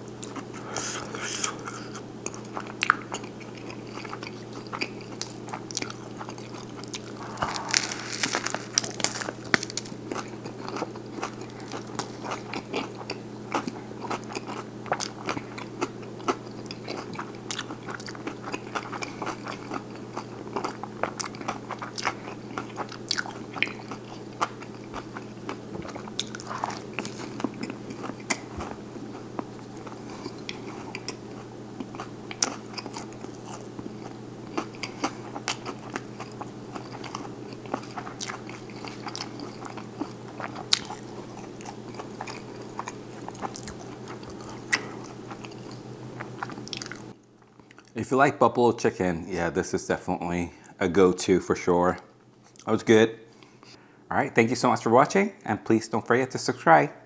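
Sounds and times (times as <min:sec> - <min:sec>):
chewing crunchy sandwich: 0:00.0 - 0:48.0
steady low hum: 0:00.0 - 0:57.0.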